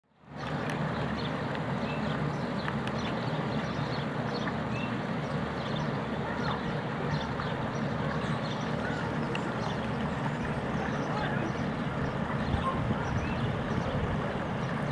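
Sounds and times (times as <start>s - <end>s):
water cascade splashing into pond: 0.2s - 14.9s.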